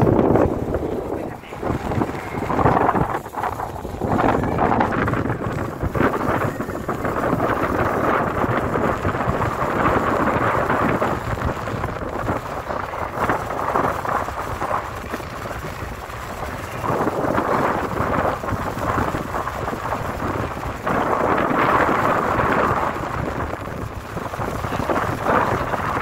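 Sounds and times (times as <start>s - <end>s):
rushing wind: 0.0s - 26.0s
sea noise: 0.0s - 26.0s
wind buffeting microphone: 0.0s - 26.0s.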